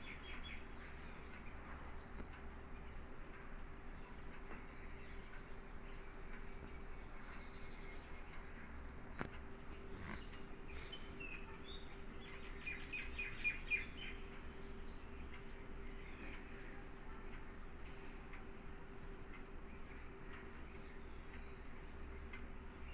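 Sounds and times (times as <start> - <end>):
low steady hum: 0.0 - 22.9
faint bird chirps: 3.9 - 22.9.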